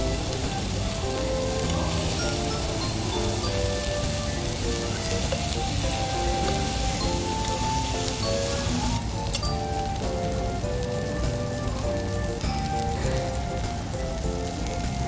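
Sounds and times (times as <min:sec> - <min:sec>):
background music: 0:00.0 - 0:15.0
meat sizzling on a grill: 0:00.0 - 0:15.0.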